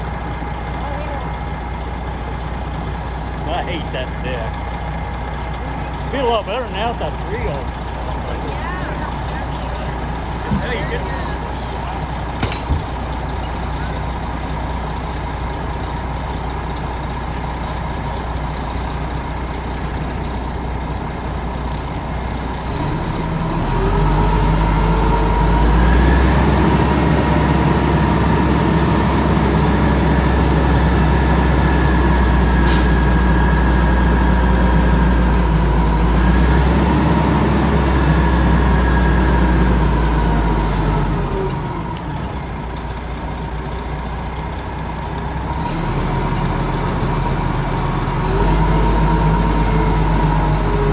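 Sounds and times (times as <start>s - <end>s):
heavy engine revving: 0.0s - 50.9s.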